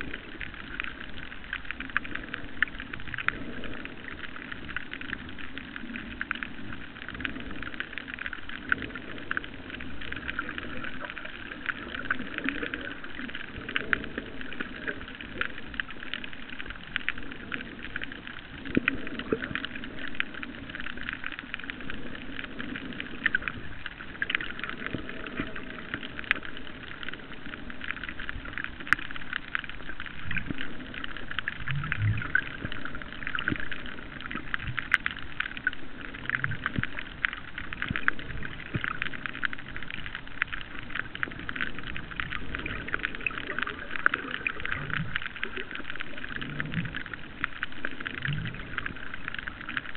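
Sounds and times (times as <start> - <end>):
crackling hiss of fine clicks: 0.0 - 49.9.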